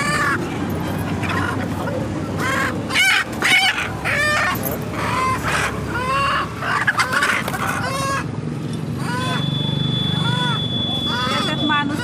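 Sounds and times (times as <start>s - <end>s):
chickens squawking and clucking: 0.0s - 9.5s, 10.1s - 12.0s.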